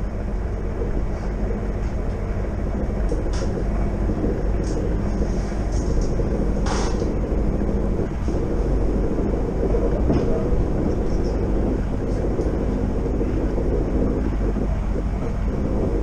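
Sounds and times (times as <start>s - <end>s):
low drone: 0.0s - 16.0s
train wheels rumbling on rails: 0.7s - 16.0s.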